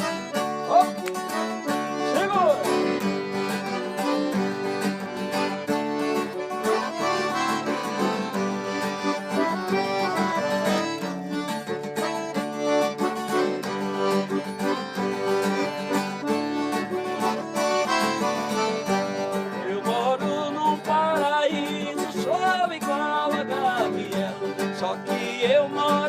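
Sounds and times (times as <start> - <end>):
accordion playing: 0.0 - 26.0
strummed guitar: 0.0 - 26.0.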